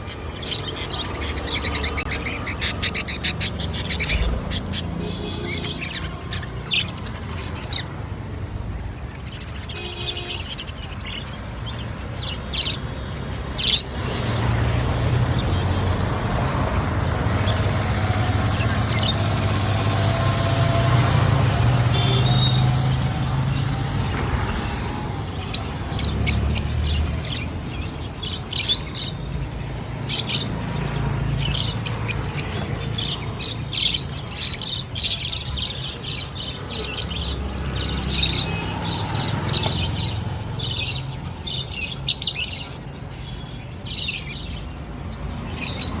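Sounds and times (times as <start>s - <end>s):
cage birds chirping and squawking: 0.0s - 46.0s.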